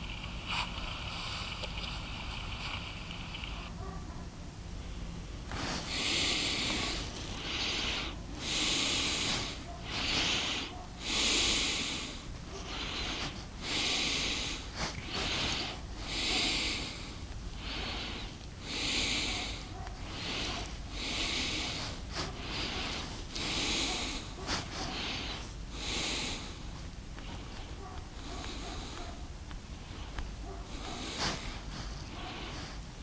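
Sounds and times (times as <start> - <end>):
person breathing hard: 4.8 - 33.0.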